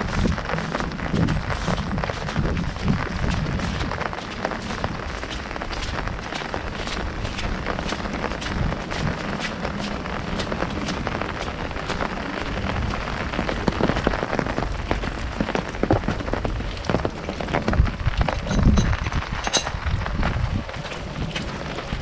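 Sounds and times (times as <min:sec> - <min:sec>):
heavy rain on umbrella: 0:00.0 - 0:22.0.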